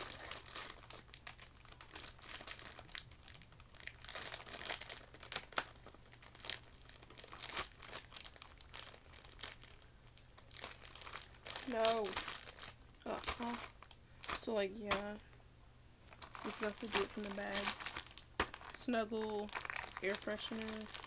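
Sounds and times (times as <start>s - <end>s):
plastic bag crinkling: 0.0s - 15.2s, 16.0s - 21.0s.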